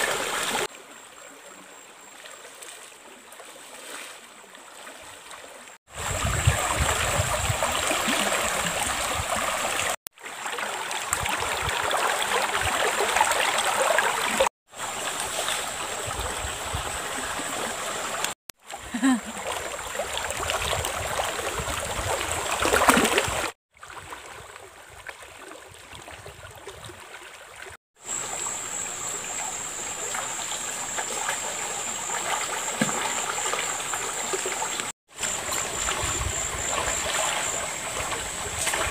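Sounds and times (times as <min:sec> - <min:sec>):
shallow river water flowing: 0:00.0 - 0:38.9
water splashing around person wading: 0:02.1 - 0:16.5, 0:17.1 - 0:38.9.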